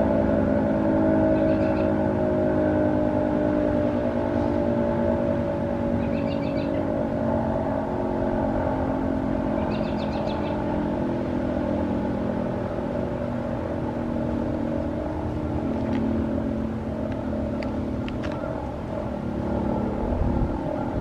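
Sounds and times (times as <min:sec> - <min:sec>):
warning siren steady chord: 0:00.0 - 0:21.0.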